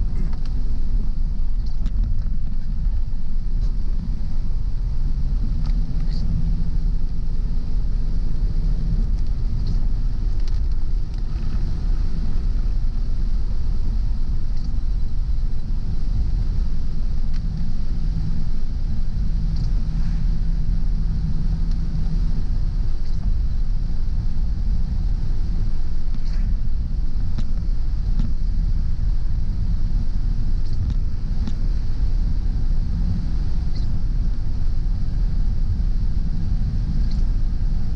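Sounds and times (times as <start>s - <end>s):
car engine and tyres rumbling: 0.0s - 37.9s
steady hiss: 0.0s - 37.9s.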